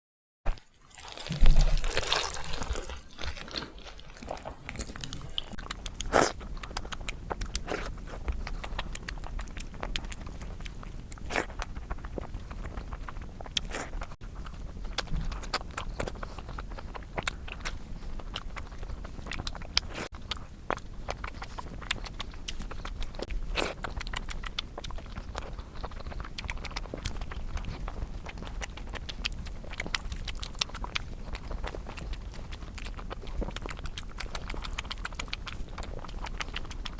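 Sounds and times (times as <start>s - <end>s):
person chewing and biting: 0.5s - 36.9s
small crunches: 0.5s - 36.9s
steady low hum: 0.5s - 36.9s
mouth clicks: 4.2s - 36.9s.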